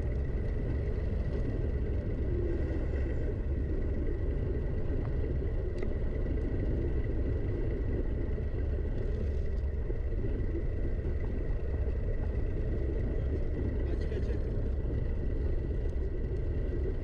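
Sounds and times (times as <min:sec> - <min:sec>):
faint high whine: 0:00.0 - 0:17.0
rolling tyre noise: 0:00.0 - 0:17.0.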